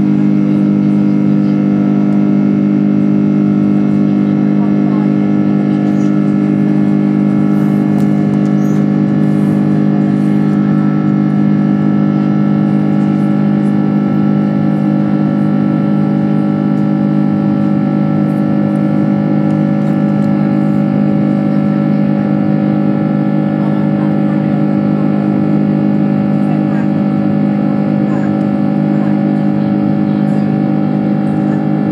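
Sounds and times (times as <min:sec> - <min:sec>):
jet engine drone in cabin: 0:00.0 - 0:31.9.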